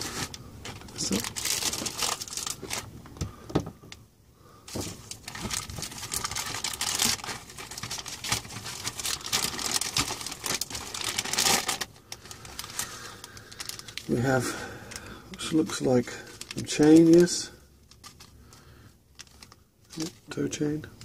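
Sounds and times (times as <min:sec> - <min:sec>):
plastic bag crinkling: 0:00.0 - 0:03.0, 0:04.7 - 0:20.5.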